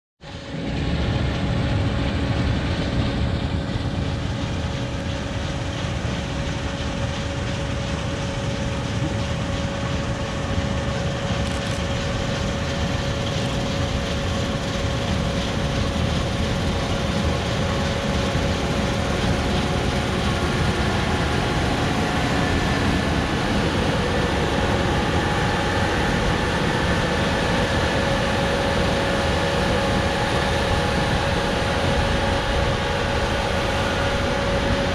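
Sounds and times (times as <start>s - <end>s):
combine harvester droning: 0.3s - 34.9s
held machine whine: 0.3s - 34.9s.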